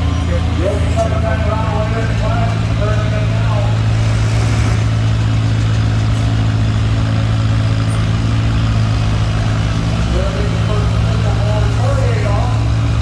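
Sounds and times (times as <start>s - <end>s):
tractor engine running steadily: 0.0s - 13.0s.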